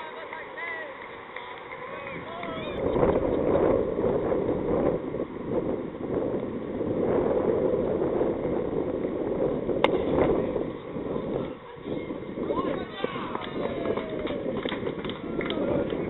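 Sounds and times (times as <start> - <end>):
wind buffeting microphone: 2.0 - 16.0.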